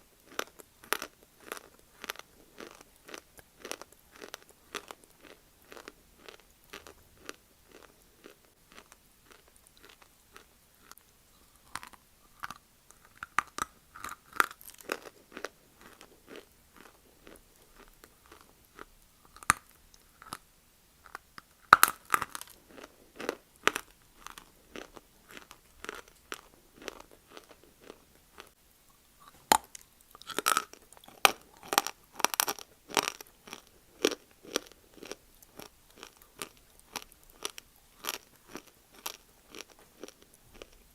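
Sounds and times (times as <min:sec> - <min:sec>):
person chewing crunchy clay: 0:00.2 - 0:40.9.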